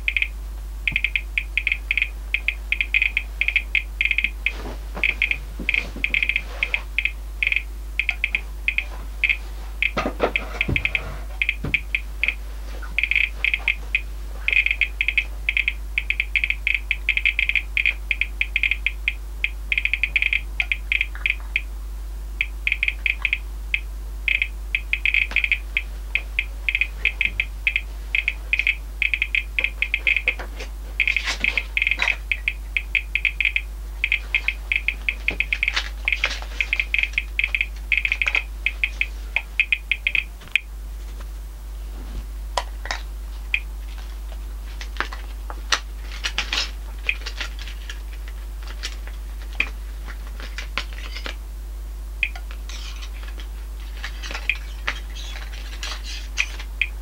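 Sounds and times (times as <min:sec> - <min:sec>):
radiation meter clicking: 0:00.0 - 0:21.7, 0:22.4 - 0:40.7, 0:43.0 - 0:43.7, 0:45.8 - 0:49.7, 0:52.2 - 0:53.4, 0:54.0 - 0:57.0
steady low hum: 0:00.0 - 0:57.0.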